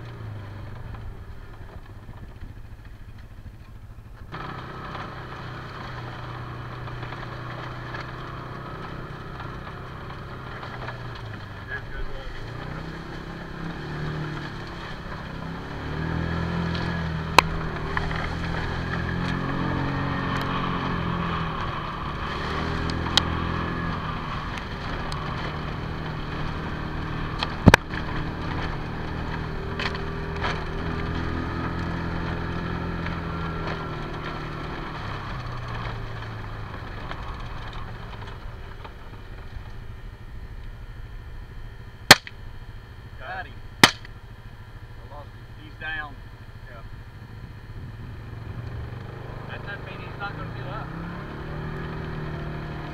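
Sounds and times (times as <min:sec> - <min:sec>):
utility vehicle engine running: 0:00.0 - 0:52.9.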